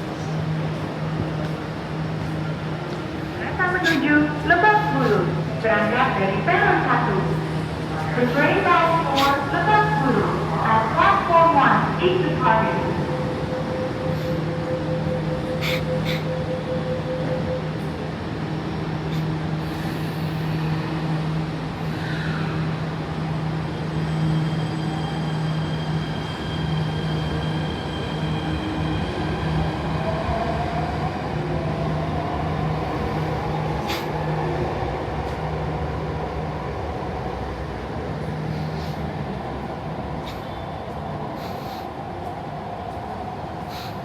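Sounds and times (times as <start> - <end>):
train low hum: 0.0 - 44.0.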